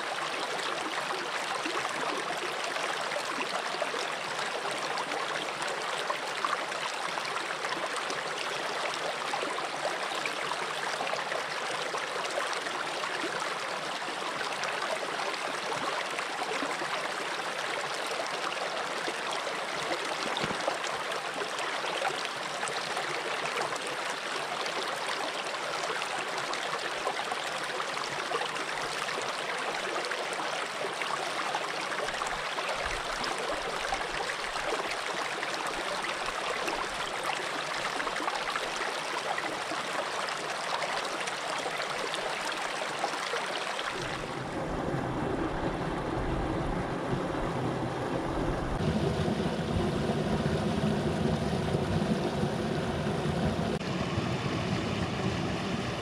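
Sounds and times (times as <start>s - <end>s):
stream babbling over stones: 0.0s - 53.9s.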